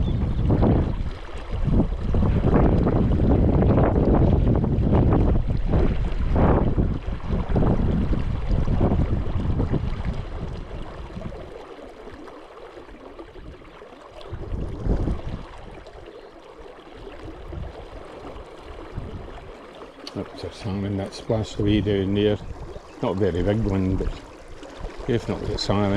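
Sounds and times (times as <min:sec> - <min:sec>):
wind buffeting microphone: 0:00.0 - 0:11.6, 0:13.2 - 0:16.2, 0:17.0 - 0:25.9.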